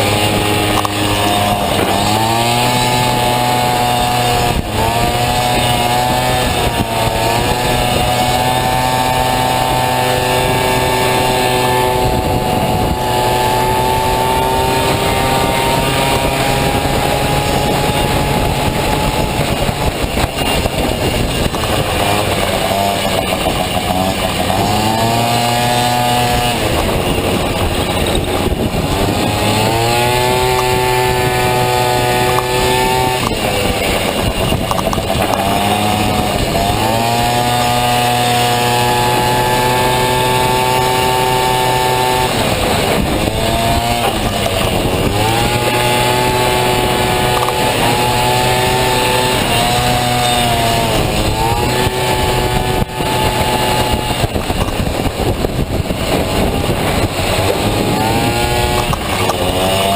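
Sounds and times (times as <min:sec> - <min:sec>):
scooter engine running hard: 0:00.0 - 0:59.9.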